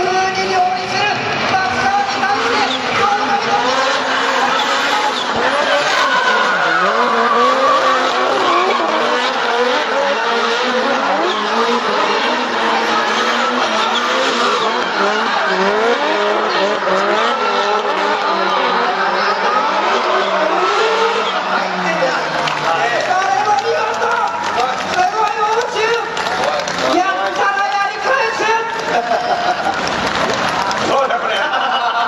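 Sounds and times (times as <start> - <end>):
car engines revving: 0.0 - 32.0
tyres squealing: 1.8 - 29.1.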